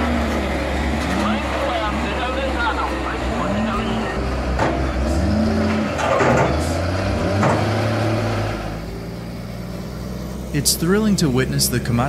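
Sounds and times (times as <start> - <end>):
heavy machine engine revving: 0.0 - 12.0.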